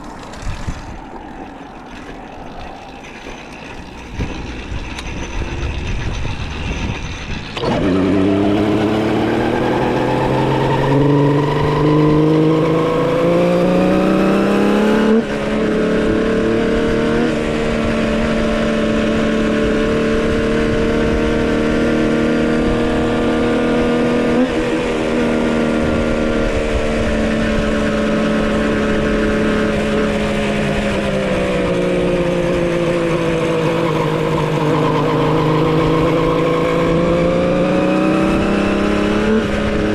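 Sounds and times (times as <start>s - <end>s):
two-stroke motorcycle engine: 3.0s - 39.9s.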